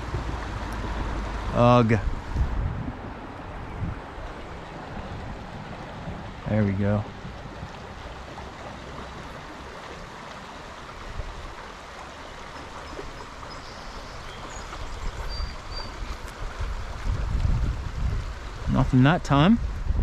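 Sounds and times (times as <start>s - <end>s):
wind buffeting microphone: 0.0s - 10.4s, 13.4s - 20.0s
stream flowing: 0.0s - 20.0s.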